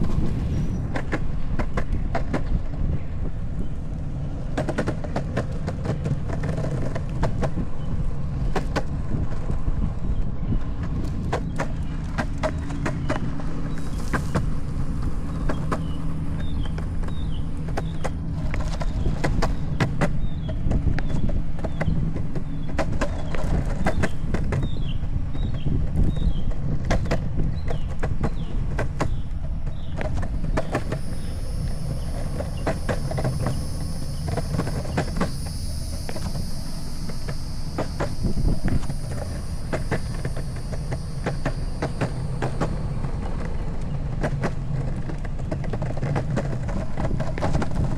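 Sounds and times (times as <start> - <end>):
longboard wheels rumbling on concrete: 0.0 - 47.9
wheels clicking over slab joints: 0.9 - 9.8, 10.6 - 36.4, 37.1 - 47.9.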